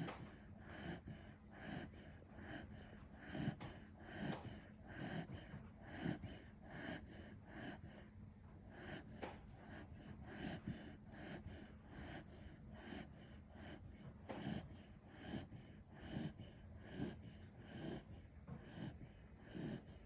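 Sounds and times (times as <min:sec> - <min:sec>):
dog snoring: 0:00.0 - 0:20.0.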